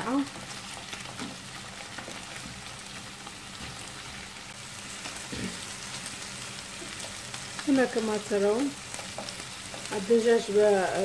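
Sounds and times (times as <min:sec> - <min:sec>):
chicken frying in butter: 0:00.0 - 0:11.0.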